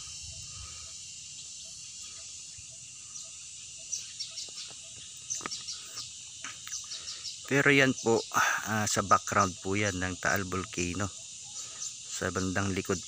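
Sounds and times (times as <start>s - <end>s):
birds chirping: 0.0s - 13.0s
insects droning: 0.0s - 13.0s.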